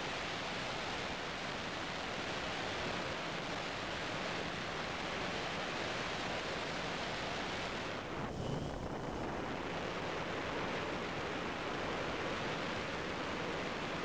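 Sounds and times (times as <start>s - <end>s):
wind and rotor wash hiss: 0.0s - 14.0s.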